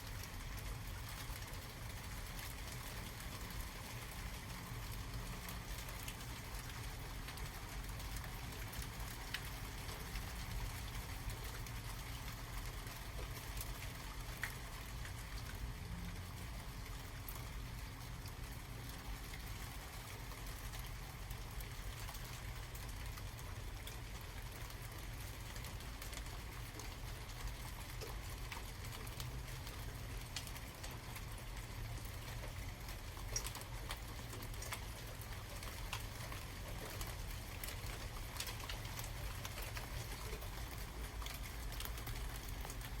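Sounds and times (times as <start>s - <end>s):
rain drips: 0.0s - 43.0s.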